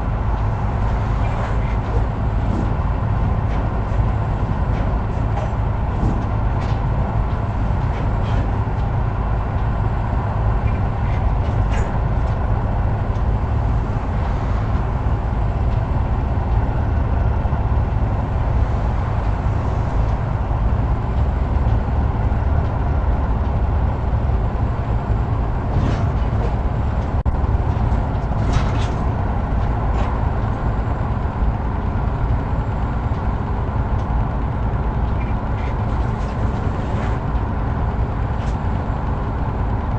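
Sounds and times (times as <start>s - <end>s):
heavy truck engine and road rumble: 0.0s - 39.9s.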